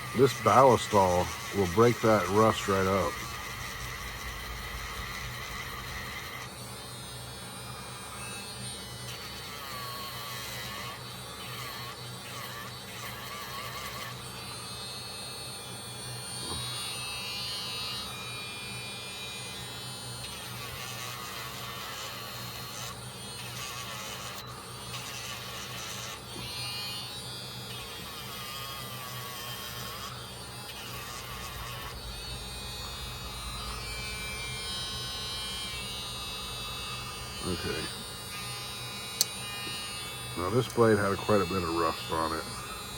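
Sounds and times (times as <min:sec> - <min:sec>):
electric tool buzzing: 0:00.0 - 0:42.9.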